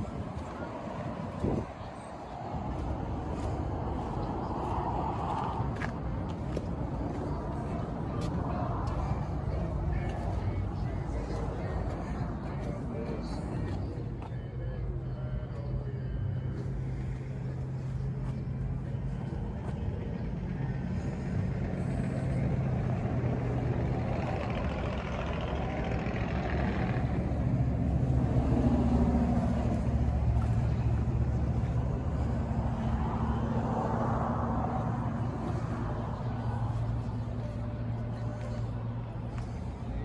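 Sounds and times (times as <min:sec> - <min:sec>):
car engine rumbling: 0:00.0 - 0:40.0.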